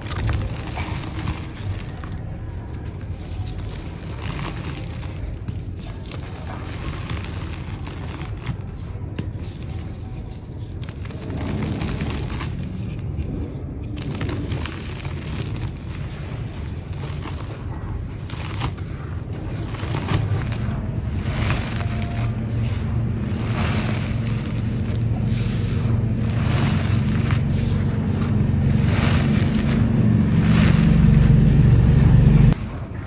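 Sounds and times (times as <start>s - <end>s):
dry mud crumbling: 0.0s - 32.7s
low rumble: 6.2s - 33.0s.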